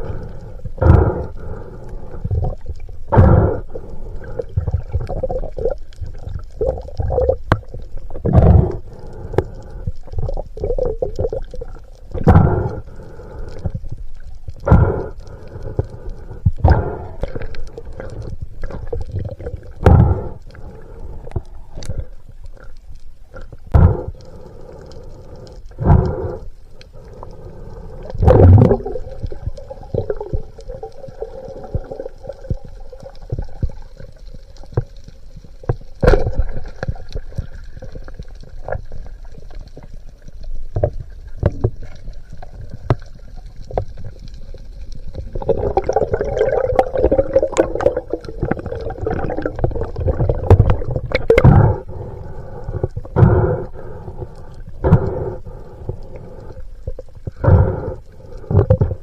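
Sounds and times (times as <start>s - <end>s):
faint steady hum: 0.0s - 59.0s
underwater clicks and crackles: 0.0s - 59.0s
underwater rushing: 0.0s - 59.0s.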